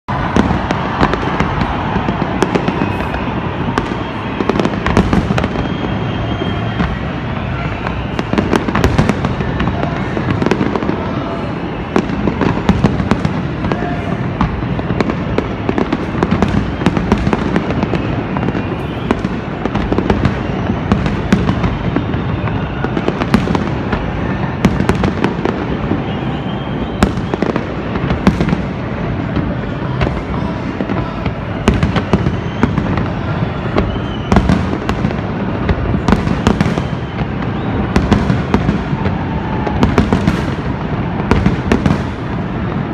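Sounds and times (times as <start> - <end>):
fireworks bursting: 0.1 - 42.9.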